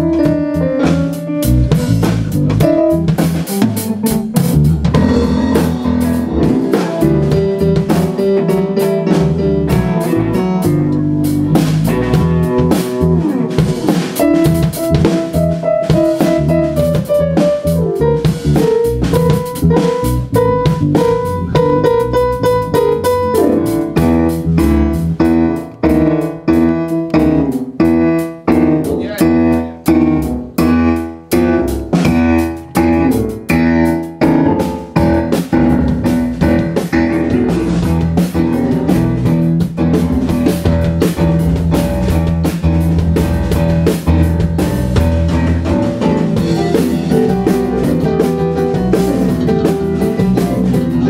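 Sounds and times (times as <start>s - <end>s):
drum kit: 0.0s - 51.0s
electric guitar: 0.0s - 51.0s.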